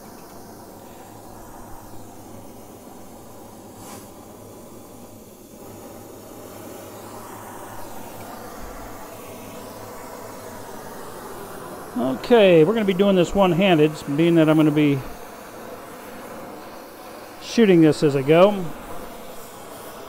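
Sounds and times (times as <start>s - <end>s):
gas torch flame hissing: 0.0s - 20.0s.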